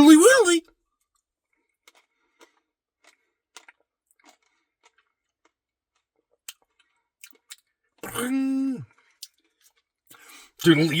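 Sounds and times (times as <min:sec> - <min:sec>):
chewing ice cream: 0:01.0 - 0:11.0.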